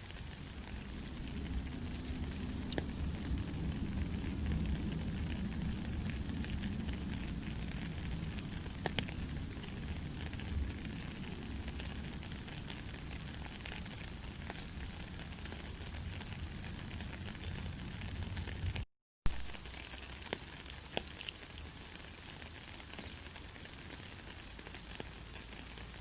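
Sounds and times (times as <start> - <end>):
faint crackles: 0.0 - 26.0.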